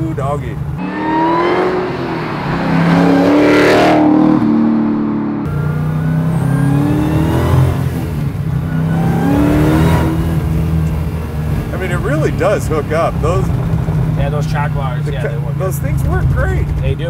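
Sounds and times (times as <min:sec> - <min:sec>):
car engine revving: 0:00.5 - 0:17.0.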